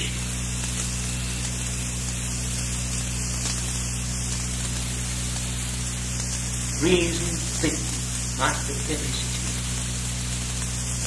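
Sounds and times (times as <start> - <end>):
mains hum: 0.0 - 11.0
steady hiss: 0.0 - 11.0.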